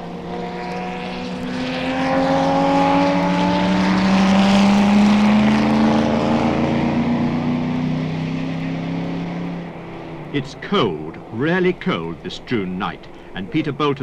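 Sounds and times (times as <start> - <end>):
racing car engines accelerating: 0.0 - 14.0.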